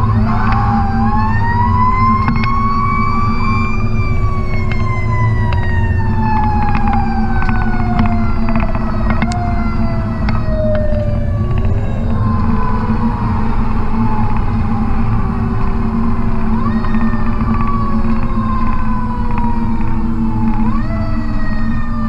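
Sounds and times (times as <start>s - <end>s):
diesel engine drone: 0.0s - 22.0s
fire truck siren: 0.0s - 22.0s
clicks: 0.1s - 21.8s.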